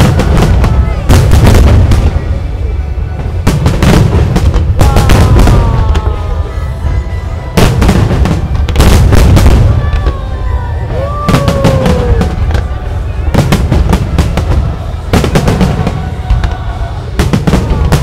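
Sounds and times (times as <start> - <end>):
fireworks cracking: 0.0 - 18.0
low booming rumble: 0.0 - 18.0.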